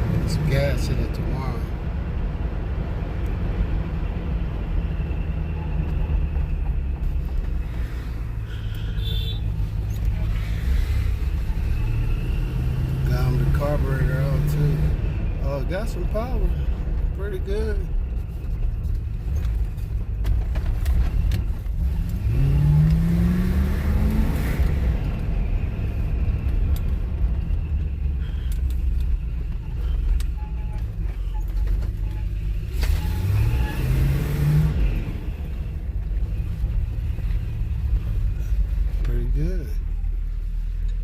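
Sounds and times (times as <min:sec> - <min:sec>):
car engine rumbling from inside: 0:00.0 - 0:41.0.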